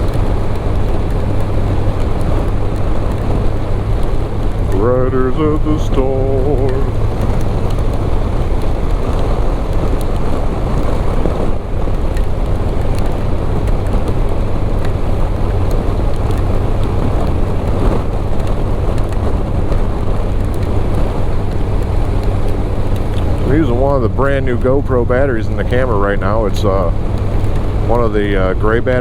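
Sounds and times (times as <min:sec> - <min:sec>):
motorcycle engine drone: 0:00.0 - 0:29.0
rain ticking on camera: 0:00.0 - 0:29.0
wind rush: 0:00.0 - 0:29.0.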